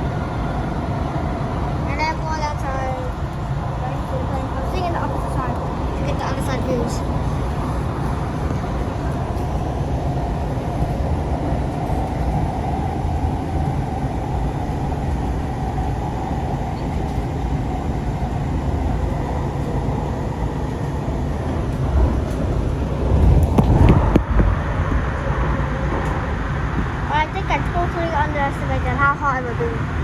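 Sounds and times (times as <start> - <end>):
light rail car rumble: 0.0 - 30.0.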